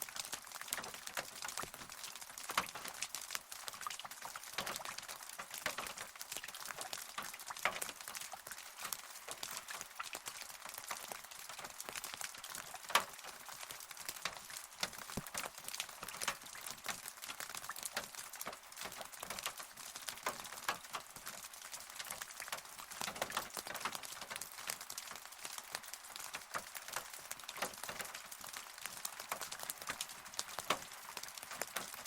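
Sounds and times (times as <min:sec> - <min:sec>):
rain drops on hard surface: 0:00.0 - 0:32.0.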